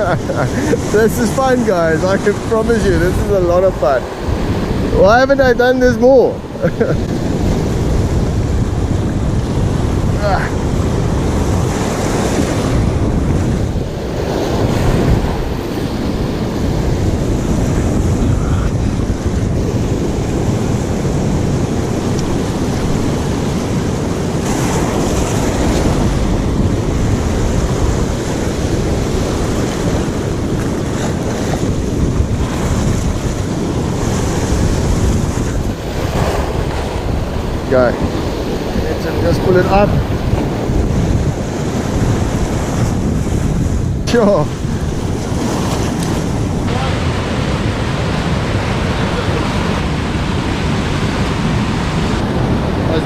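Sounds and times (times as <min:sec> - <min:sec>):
sea surf washing in: 0:00.0 - 0:53.0
wind blowing on microphone: 0:00.0 - 0:53.0.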